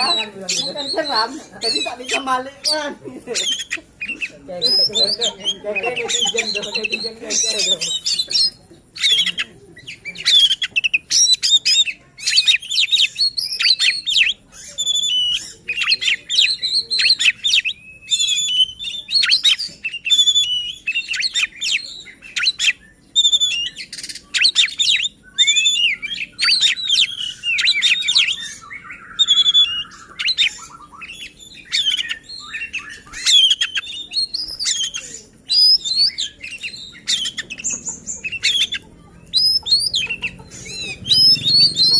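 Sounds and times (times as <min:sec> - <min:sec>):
songbird whistles and trills: 0:00.0 - 0:41.9.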